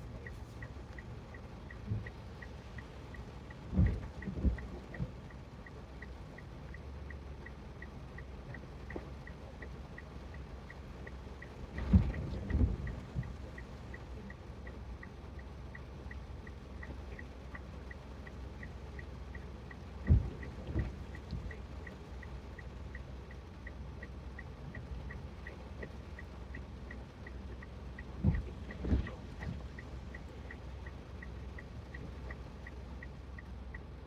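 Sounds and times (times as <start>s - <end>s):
faint fast ticking: 0.0s - 34.0s
rain and tyre noise: 0.0s - 34.0s.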